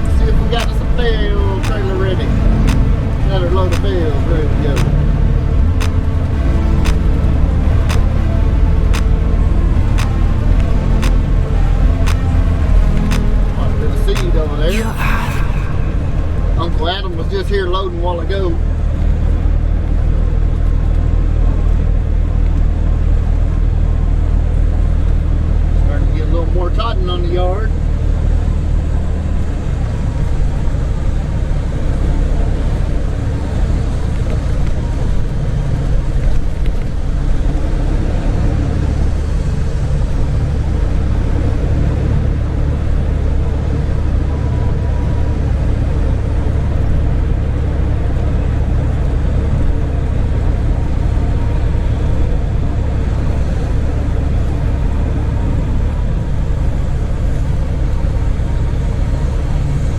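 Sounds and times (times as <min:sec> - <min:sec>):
truck engine and road drone: 0:00.0 - 0:59.9.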